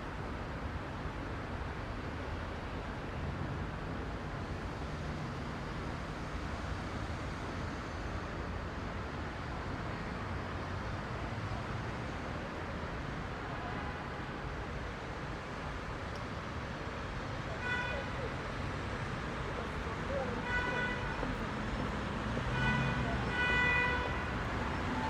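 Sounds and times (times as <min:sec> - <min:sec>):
dense road traffic: 0:00.0 - 0:25.0.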